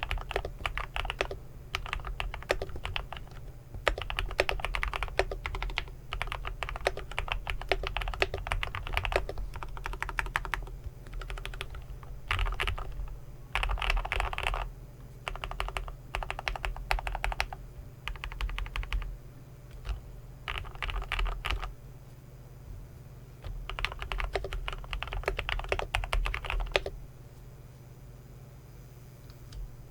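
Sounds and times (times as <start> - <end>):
typing on mechanical keyboard: 0.0 - 14.7, 15.3 - 19.1, 19.7 - 21.7, 23.4 - 26.9.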